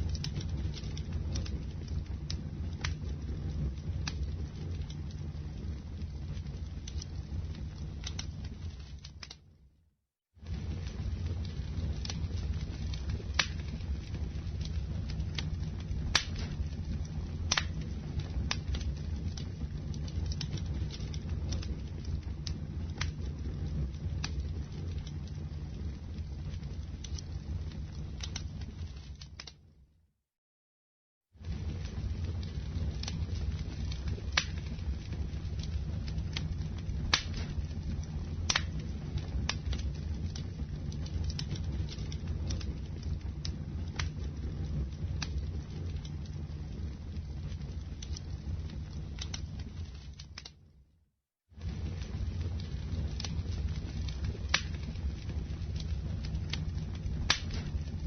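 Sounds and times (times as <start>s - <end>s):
campfire crackling and popping: 0.0s - 9.5s, 10.4s - 29.7s, 31.4s - 50.7s, 51.6s - 58.0s.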